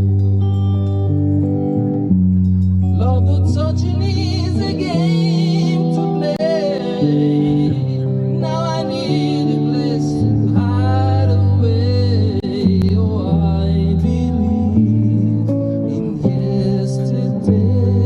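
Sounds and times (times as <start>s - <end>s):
guitar: 0.0s - 18.0s
person singing: 2.8s - 18.0s.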